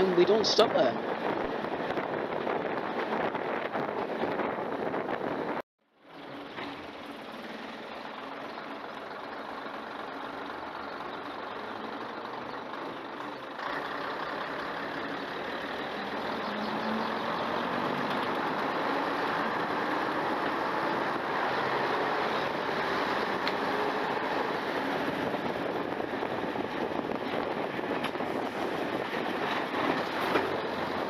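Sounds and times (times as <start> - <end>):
diesel railcar engine: 1.0 - 31.0.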